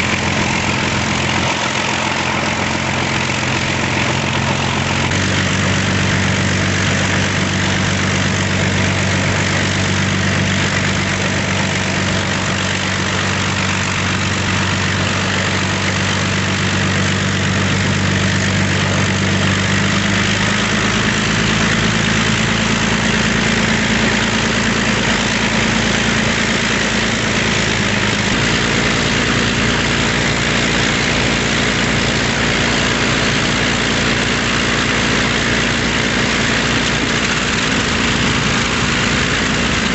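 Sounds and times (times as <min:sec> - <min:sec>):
piston aircraft engines droning: 0:00.0 - 0:39.9.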